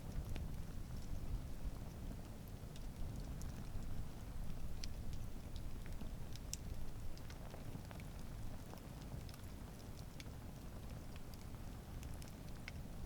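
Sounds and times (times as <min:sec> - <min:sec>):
campfire crackling and popping: 0:00.1 - 0:13.0.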